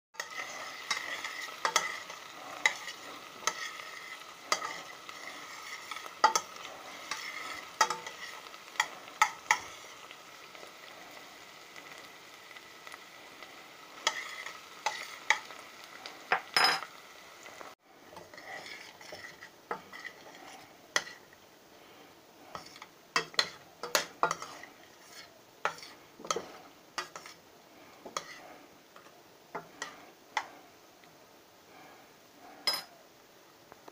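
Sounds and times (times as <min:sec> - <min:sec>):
onions sizzling in a pot: 0:00.2 - 0:33.9.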